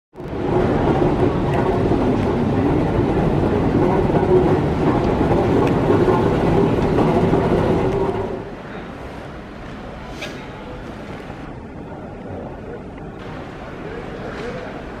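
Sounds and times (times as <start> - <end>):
moving walkway rumble: 0.1 - 15.0.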